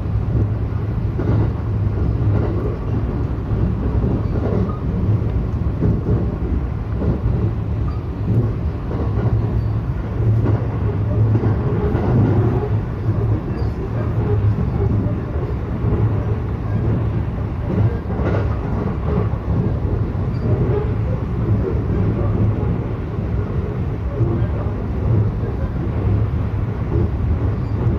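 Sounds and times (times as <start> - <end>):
rail noise: 0.0 - 27.9
train wheels and motors rumbling: 0.0 - 27.9.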